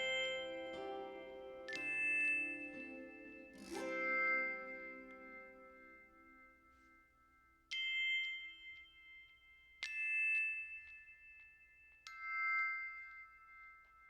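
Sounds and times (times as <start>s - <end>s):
struck bell-like chimes: 0.0s - 14.0s.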